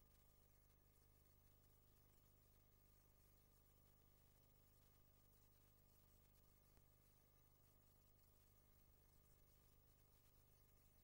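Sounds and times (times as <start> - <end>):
faint low hum and hiss: 0.0 - 11.0.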